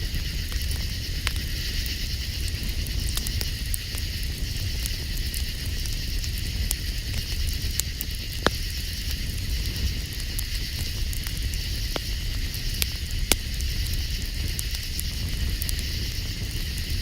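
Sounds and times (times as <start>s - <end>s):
campfire crackling: 0.0s - 17.0s
night insects chorus: 0.0s - 17.0s.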